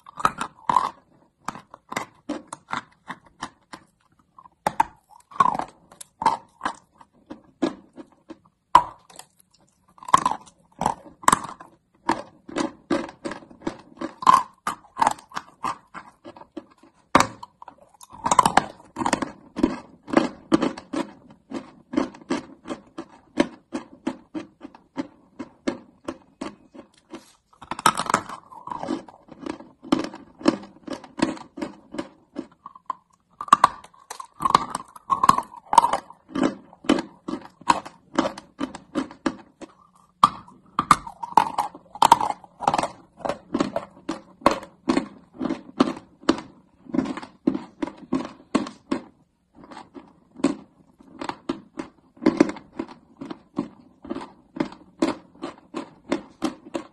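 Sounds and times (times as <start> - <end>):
chewing chalk crunches: 0.0 - 56.9.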